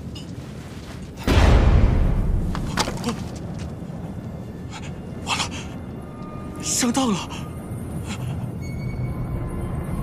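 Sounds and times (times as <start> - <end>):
low rumble of wind: 0.0 - 10.0.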